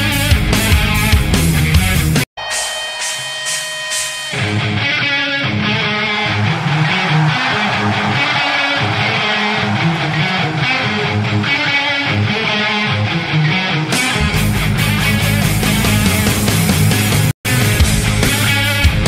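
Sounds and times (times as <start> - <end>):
rock music with guitar and bass: 0.0 - 19.0.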